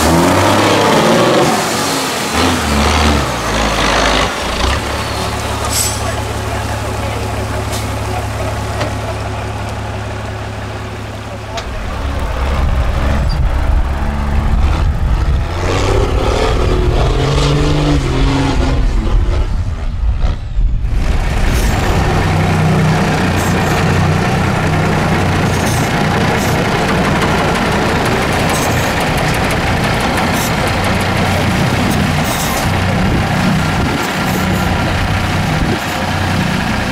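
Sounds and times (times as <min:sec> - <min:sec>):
diesel truck engines under load: 0:00.0 - 0:36.9.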